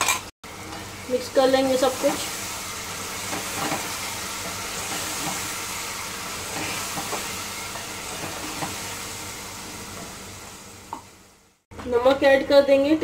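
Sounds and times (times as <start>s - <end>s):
food sizzling in a pot: 0.2s - 11.7s.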